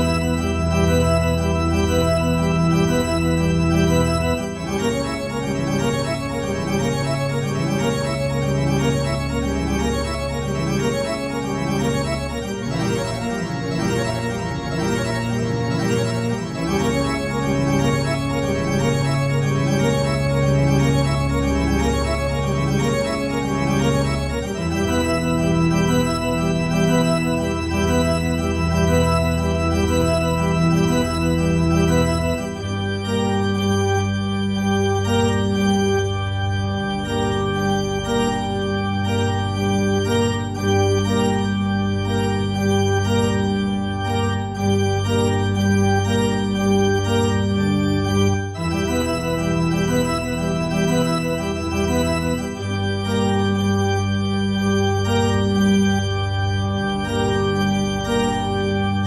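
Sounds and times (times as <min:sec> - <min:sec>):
instrumental music with held chords: 0:00.0 - 0:59.0.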